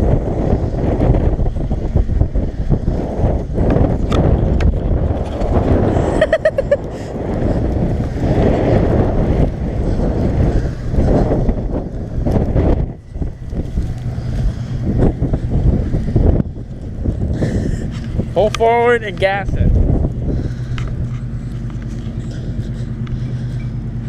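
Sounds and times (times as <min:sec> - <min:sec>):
truck engine rumbling: 0:00.0 - 0:24.0
wind buffeting microphone: 0:00.0 - 0:24.0.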